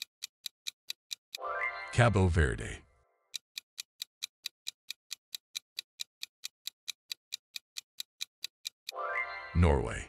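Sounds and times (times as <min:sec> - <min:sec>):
clock-like ticking: 0:00.0 - 0:02.6, 0:03.3 - 0:09.9.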